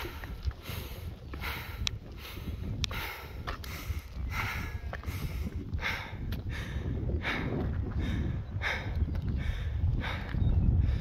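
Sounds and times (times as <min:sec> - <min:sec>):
person breathing hard: 0:00.0 - 0:11.0
wind rumbling on microphone: 0:00.0 - 0:11.0.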